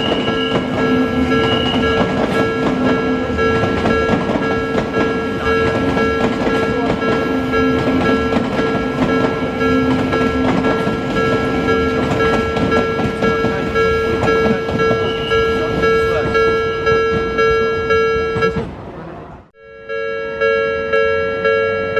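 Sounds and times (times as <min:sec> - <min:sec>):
level crossing warning bell: 0:00.0 - 0:18.7, 0:19.6 - 0:21.9
train wheels rumbling on rails: 0:00.0 - 0:19.5.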